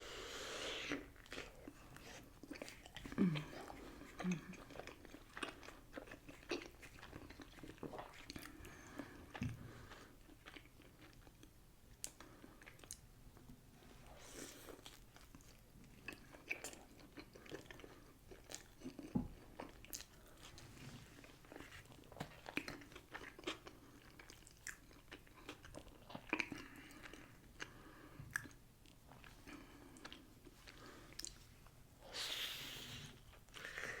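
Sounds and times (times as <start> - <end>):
wet chewing of soft food: 0.7 - 31.8, 32.4 - 34.0.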